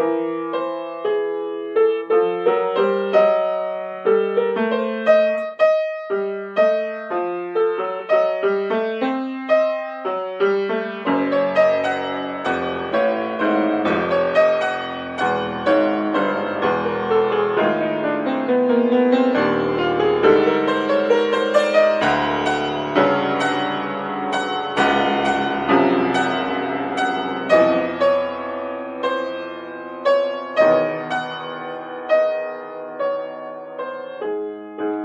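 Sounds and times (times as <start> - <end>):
solo piano: 0.0 - 35.0.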